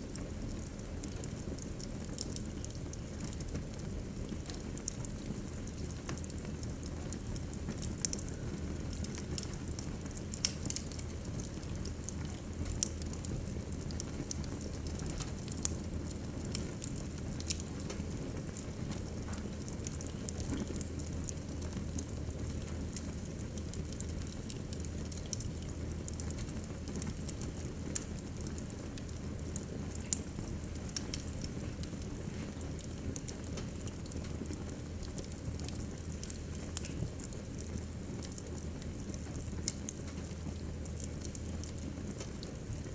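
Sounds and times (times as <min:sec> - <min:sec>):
fire crackling and popping: 0:00.0 - 0:42.9
low noise of flames: 0:00.0 - 0:42.9.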